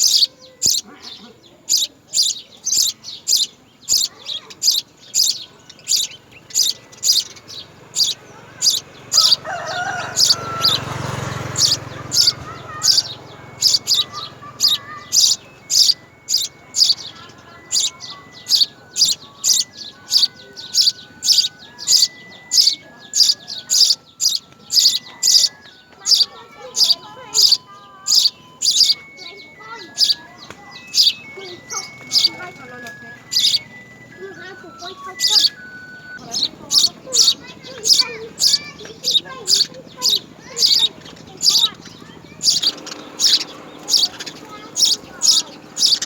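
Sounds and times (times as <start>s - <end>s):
sparrow chirping: 0.0s - 46.0s.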